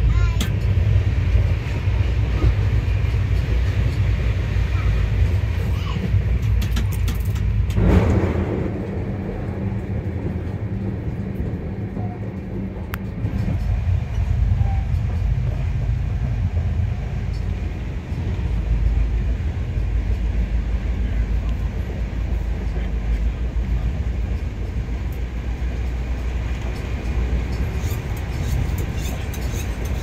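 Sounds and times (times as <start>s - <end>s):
train coach rumbling on rails: 0.0s - 30.0s.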